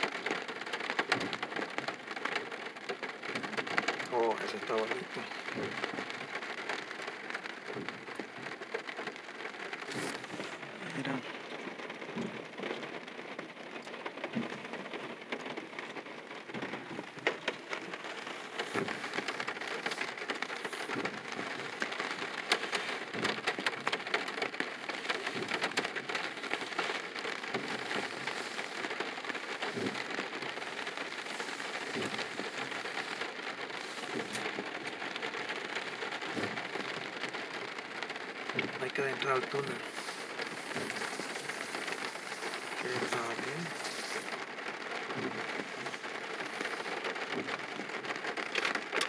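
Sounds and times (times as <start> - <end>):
rain pattering on car: 0.0 - 49.0.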